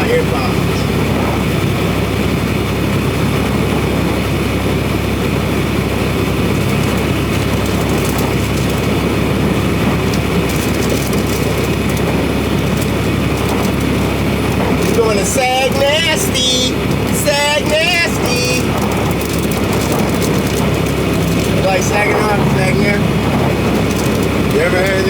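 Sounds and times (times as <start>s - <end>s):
diesel engine drone: 0.0s - 25.0s
road noise: 0.0s - 25.0s.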